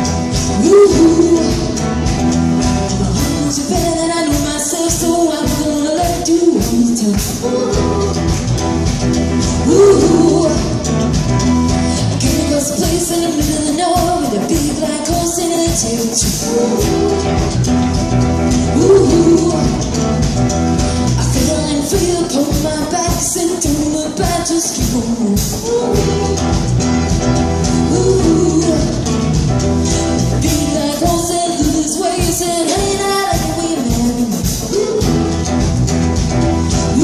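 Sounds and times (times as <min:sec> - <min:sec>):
live band playing: 0:00.0 - 0:37.0
person singing: 0:00.3 - 0:02.2, 0:02.8 - 0:08.7, 0:09.4 - 0:17.9, 0:18.5 - 0:20.2, 0:20.8 - 0:27.0, 0:27.6 - 0:35.5.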